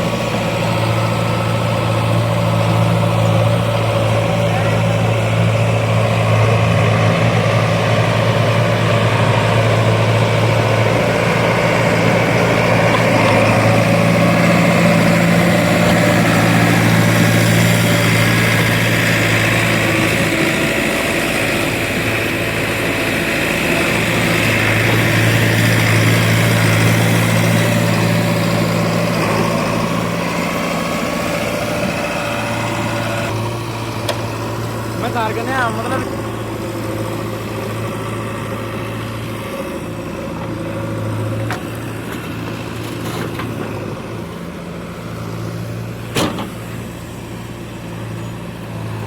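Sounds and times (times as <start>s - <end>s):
heavy diesel engine droning: 0.0s - 49.0s.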